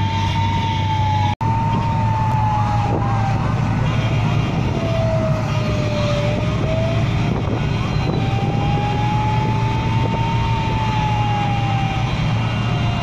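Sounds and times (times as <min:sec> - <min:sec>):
engine and road rumble: 0:00.0 - 0:13.0
fire engine siren wailing: 0:00.0 - 0:13.0.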